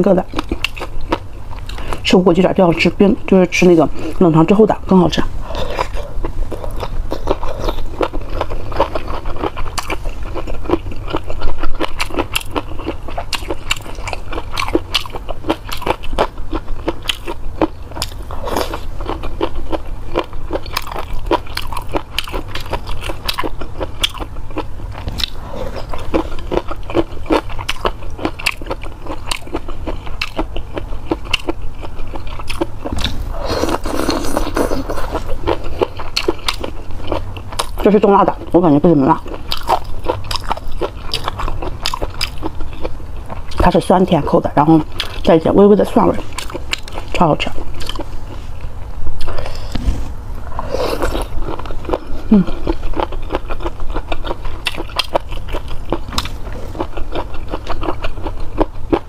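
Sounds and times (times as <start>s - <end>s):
wet crunchy chewing: 3.9s - 59.0s.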